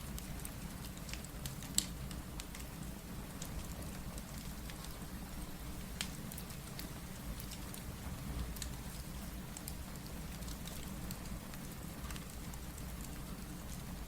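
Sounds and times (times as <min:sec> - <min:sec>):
steady rain: 0:00.0 - 0:14.0
wood fire crackling and popping: 0:00.0 - 0:14.0.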